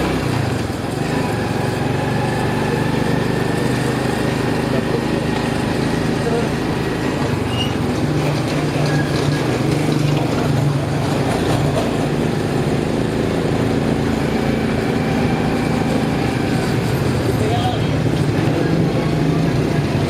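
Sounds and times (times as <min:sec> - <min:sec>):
motorcycle engine running: 0:00.0 - 0:20.0
street noise: 0:00.0 - 0:20.0.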